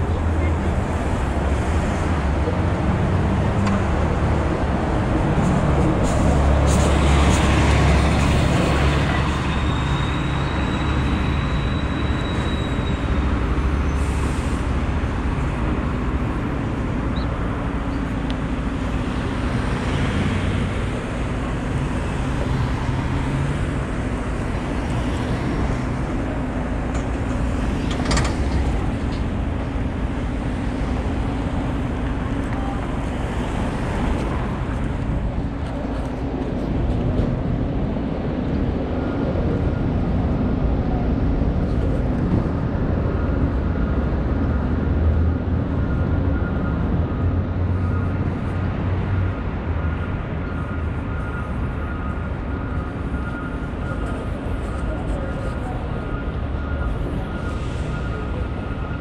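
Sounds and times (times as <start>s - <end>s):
traffic rumble: 0.0s - 59.0s.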